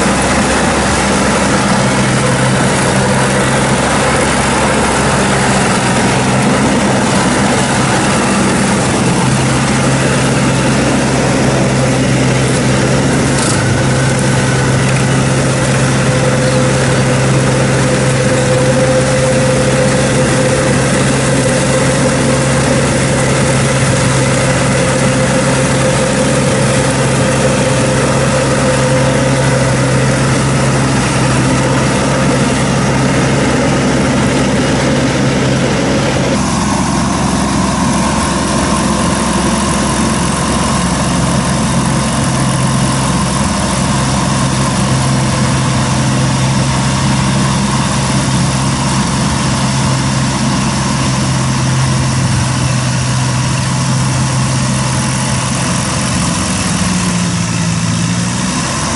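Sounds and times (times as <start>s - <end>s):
flail rotor chopping weeds: 0.0s - 58.9s
mower engine running under load: 0.0s - 58.9s.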